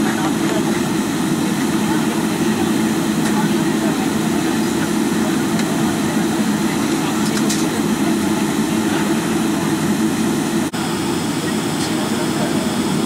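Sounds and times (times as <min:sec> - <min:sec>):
jet engines cabin drone: 0:00.0 - 0:13.0.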